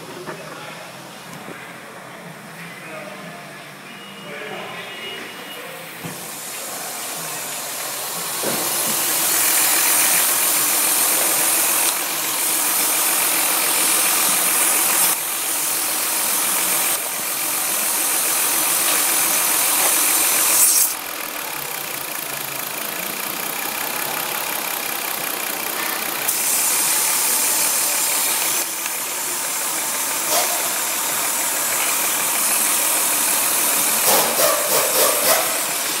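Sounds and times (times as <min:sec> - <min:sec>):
car engine revving with hiss: 0:06.1 - 0:36.0.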